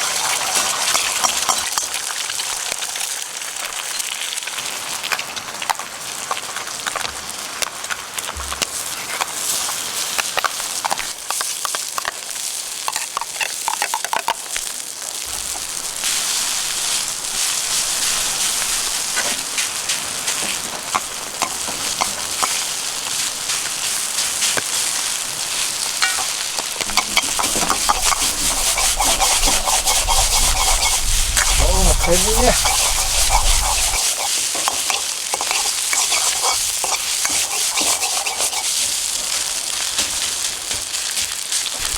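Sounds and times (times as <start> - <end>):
food sizzling in a wok: 0.0 - 41.9.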